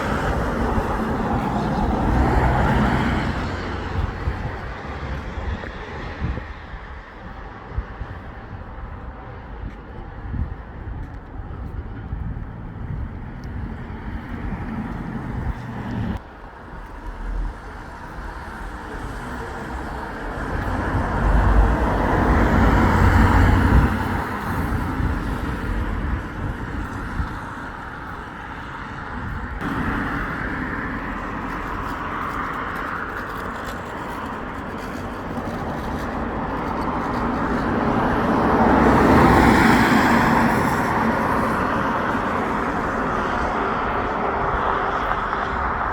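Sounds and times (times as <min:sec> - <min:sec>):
motor vehicles passing close by: 0:00.0 - 0:07.4, 0:09.6 - 0:45.9.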